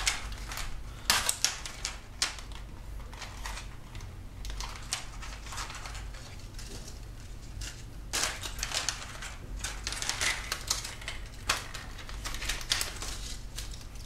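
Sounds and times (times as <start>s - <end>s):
plastic strips crackling and clicking: 0.0s - 14.0s.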